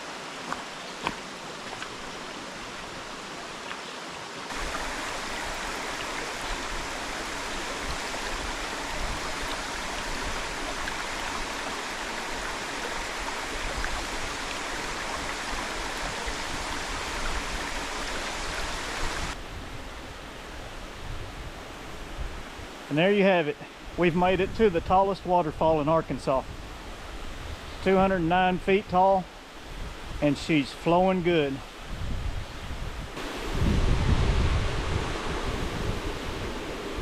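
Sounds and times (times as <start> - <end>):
waterfall and creek rushing: 0.0 - 37.0.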